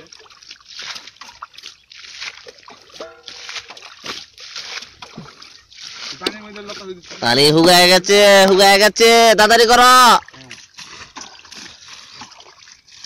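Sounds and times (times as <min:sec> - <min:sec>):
water splashing and sloshing: 0:00.0 - 0:08.8, 0:09.5 - 0:13.0.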